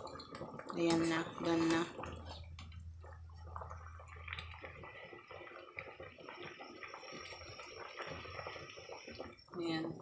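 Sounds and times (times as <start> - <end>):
soup bubbling at a boil: 0.0 - 10.0.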